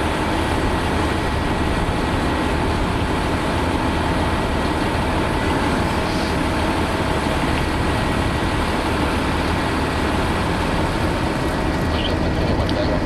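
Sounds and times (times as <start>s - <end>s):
jet engines running at low power: 0.0s - 13.0s.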